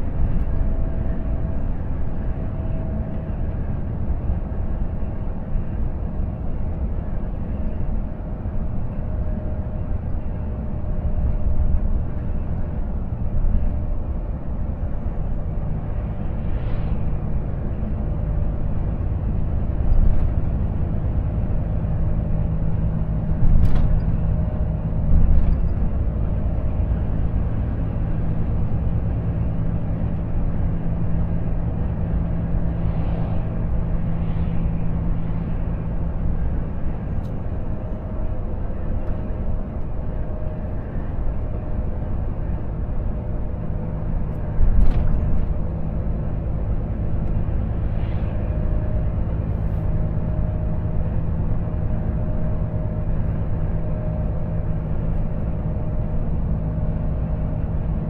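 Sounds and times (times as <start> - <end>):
tyre and road noise: 0.0 - 58.0.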